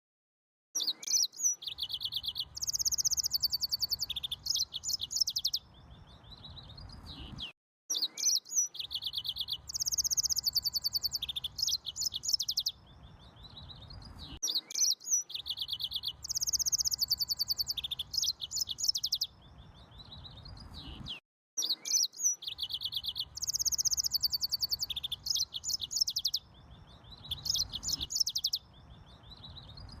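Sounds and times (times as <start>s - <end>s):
canary singing: 0.8s - 30.0s.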